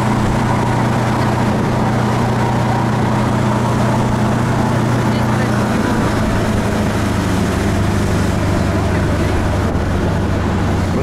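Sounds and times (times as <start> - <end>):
boat engine droning: 0.0 - 11.0
water rushing along hull: 0.0 - 11.0.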